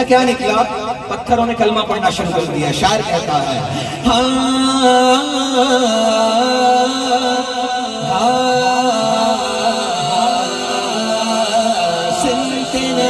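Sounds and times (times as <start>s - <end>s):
man chanting devotional song: 0.0s - 13.0s.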